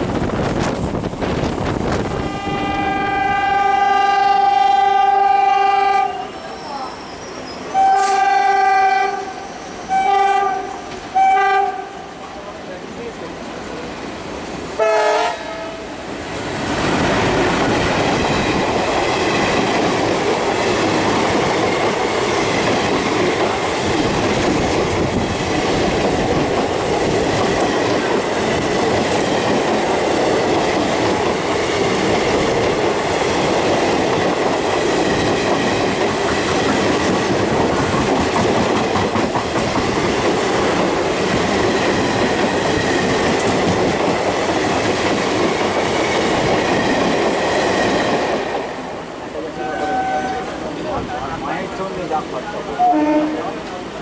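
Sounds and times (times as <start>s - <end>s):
passing train rumble: 0.0s - 54.0s.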